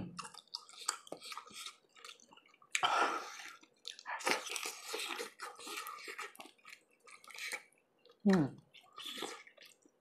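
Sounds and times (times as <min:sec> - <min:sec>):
chewing and wet mouth sounds: 0:00.0 - 0:10.0.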